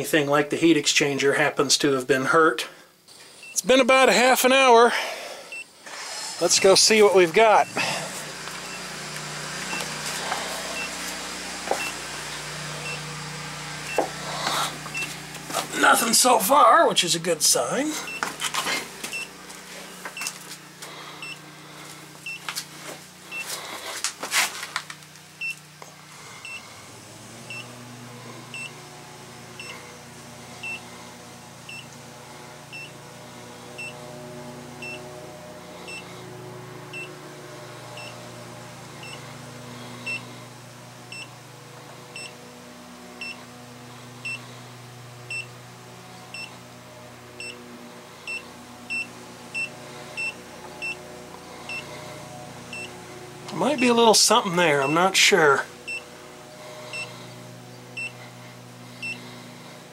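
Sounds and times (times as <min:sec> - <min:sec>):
low machine hum: 0:02.7 - 0:59.9.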